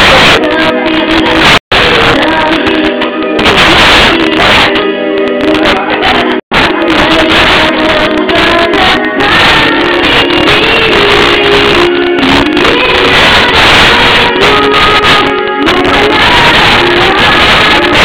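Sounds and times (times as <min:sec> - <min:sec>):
loud backing track: 0:00.0 - 0:18.0
woman singing karaoke: 0:00.0 - 0:18.0.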